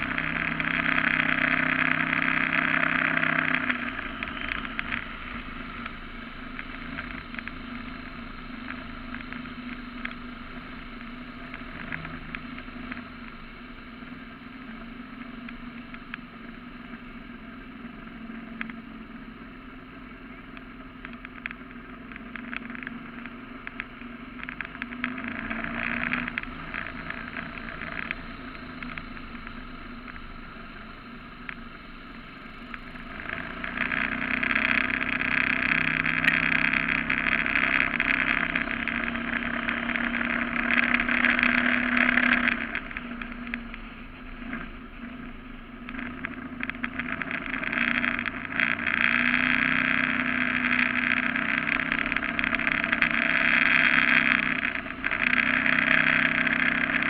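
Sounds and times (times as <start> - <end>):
boat engine drone: 0.0 - 57.0.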